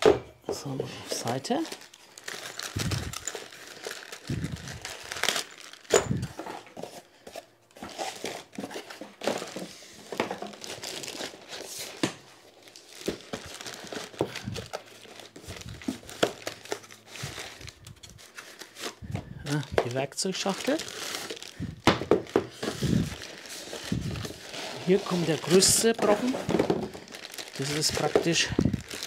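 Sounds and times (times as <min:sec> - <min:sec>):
packaging crinkling and rustling: 0:00.6 - 0:29.0.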